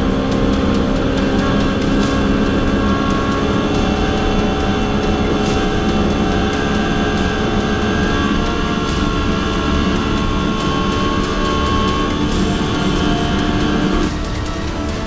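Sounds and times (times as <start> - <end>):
engine at high rpm: 0.0 - 15.0.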